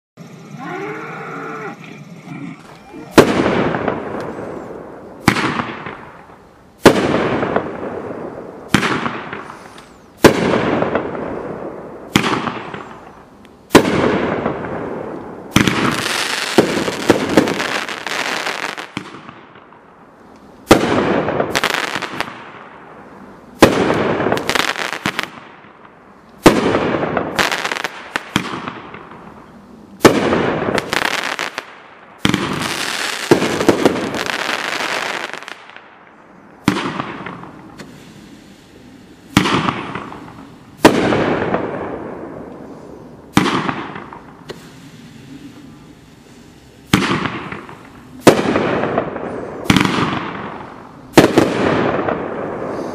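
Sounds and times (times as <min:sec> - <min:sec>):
firework crackling: 0:00.2 - 0:52.9
firework bangs: 0:03.1 - 0:13.1, 0:13.7 - 0:19.8, 0:20.6 - 0:22.8, 0:23.6 - 0:29.4, 0:30.0 - 0:36.0, 0:36.6 - 0:42.5, 0:43.2 - 0:46.2, 0:46.9 - 0:52.9.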